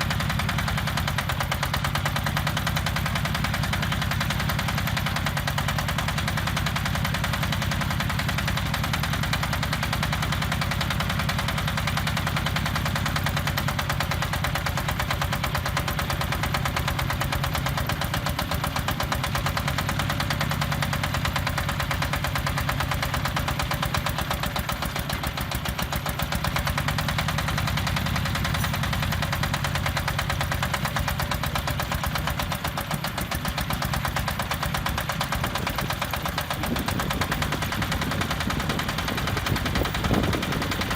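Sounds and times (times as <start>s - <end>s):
diesel engine clattering: 0.0s - 40.9s.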